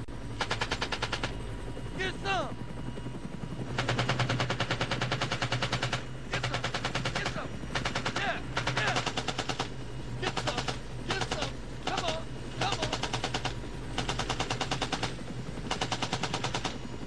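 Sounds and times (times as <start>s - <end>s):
automatic gunfire bursts: 0.4s - 1.3s, 3.8s - 16.8s.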